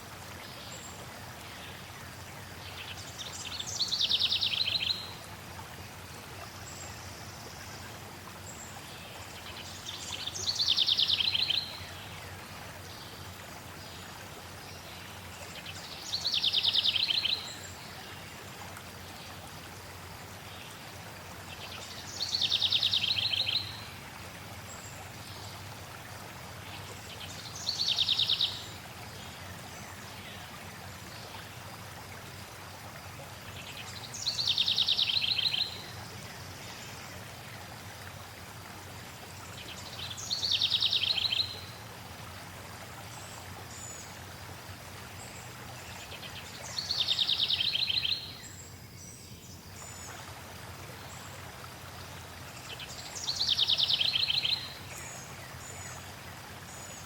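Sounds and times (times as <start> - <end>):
flowing water rushing: 0.0 - 57.0.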